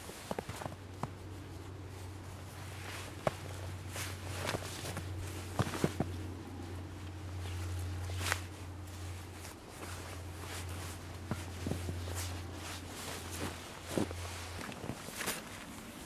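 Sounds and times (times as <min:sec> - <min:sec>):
cord being pulled and wrapped: 0:00.0 - 0:16.0
rustle of cord and jacket: 0:00.0 - 0:16.0
steady low hum: 0:00.0 - 0:16.0.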